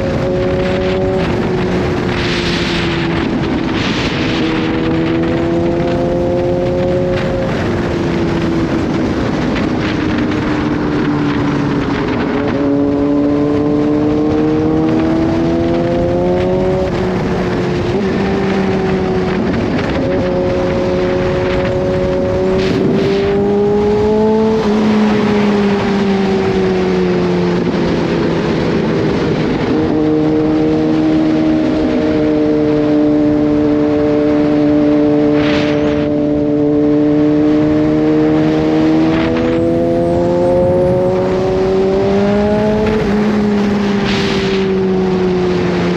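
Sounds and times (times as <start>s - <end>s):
motorcycle engine revving: 0.0s - 45.9s
wind and road noise: 0.0s - 45.9s.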